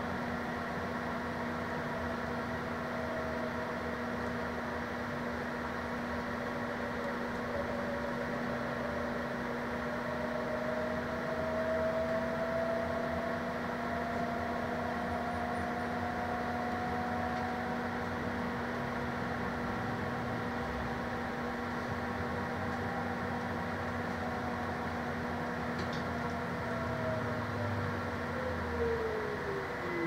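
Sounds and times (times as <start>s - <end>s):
bus hum and road noise: 0.0s - 30.0s.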